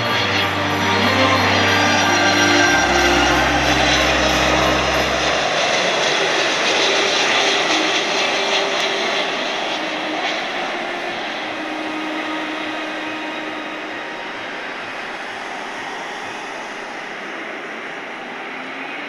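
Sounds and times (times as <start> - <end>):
jet engine rushing: 0.0 - 19.0.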